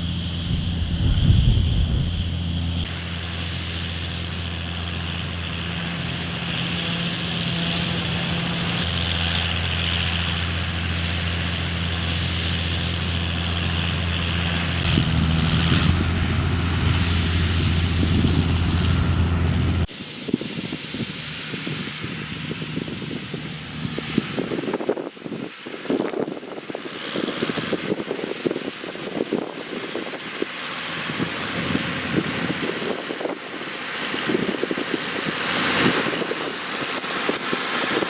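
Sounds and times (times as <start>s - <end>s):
tractor engine drone: 0.0s - 38.0s.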